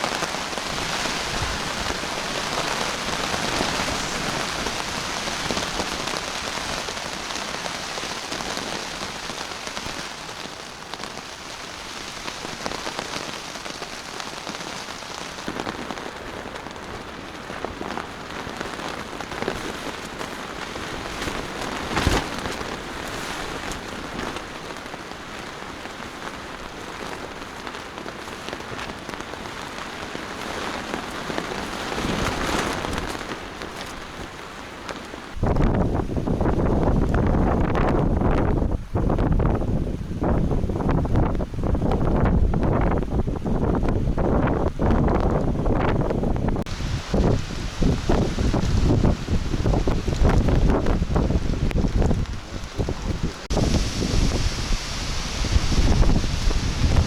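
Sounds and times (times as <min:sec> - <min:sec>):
heavy rain on a tarp: 0:00.0 - 0:57.0.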